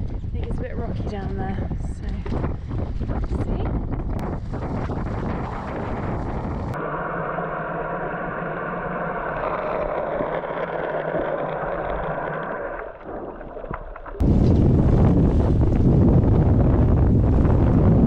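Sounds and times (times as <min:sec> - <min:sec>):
wind buffeting microphone: 0:00.0 - 0:12.4, 0:14.2 - 0:18.0
muffled underwater hum: 0:03.4 - 0:18.0.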